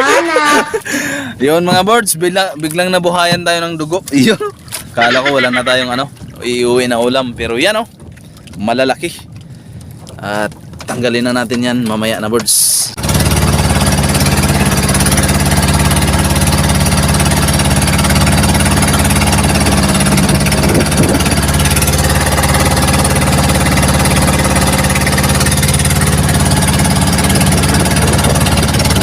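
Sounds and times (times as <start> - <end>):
boat engine running steadily: 0.0 - 29.0.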